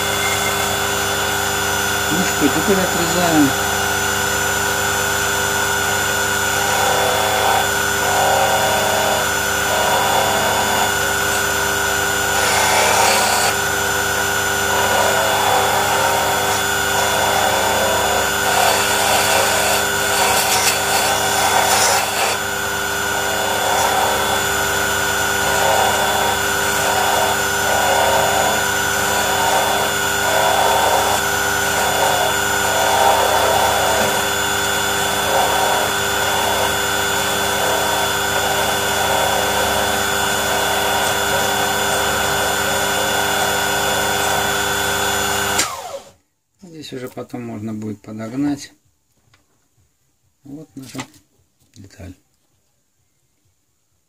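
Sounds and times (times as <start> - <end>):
power tool cutting wood: 0.0 - 46.2.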